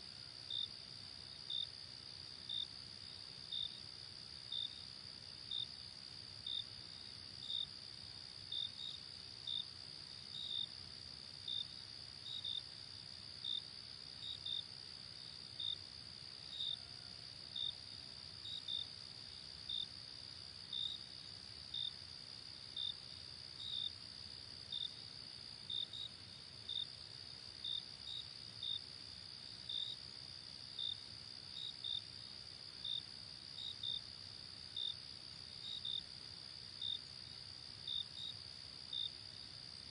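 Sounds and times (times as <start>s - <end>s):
cricket chirps: 0.0s - 39.9s.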